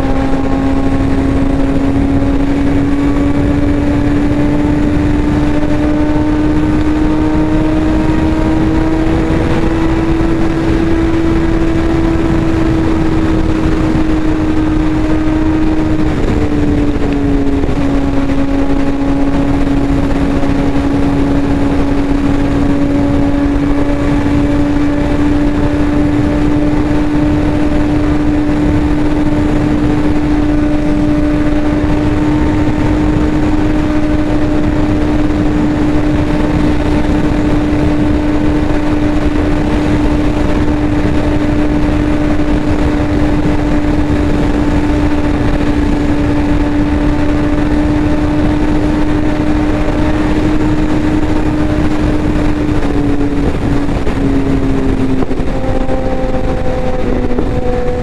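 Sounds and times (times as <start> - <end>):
motorcycle engine at speed: 0.0 - 58.0
wind rushing over microphone: 0.0 - 58.0.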